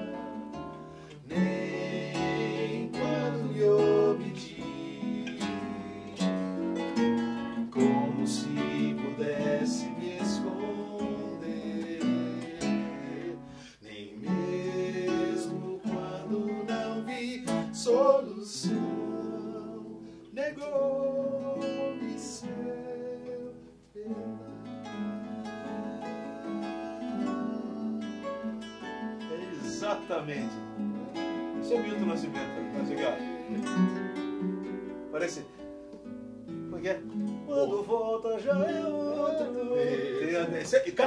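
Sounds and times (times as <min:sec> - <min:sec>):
acoustic guitar playing: 0:00.0 - 0:41.0
person singing: 0:01.1 - 0:06.8, 0:07.6 - 0:29.7, 0:32.3 - 0:34.1, 0:37.4 - 0:41.0.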